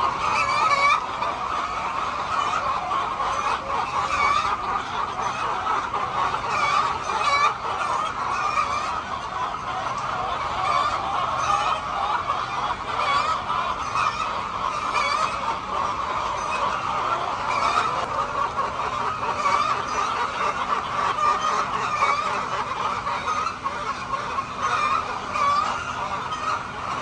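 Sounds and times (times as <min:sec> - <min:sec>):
flock of chickens clucking: 0:00.0 - 0:27.0.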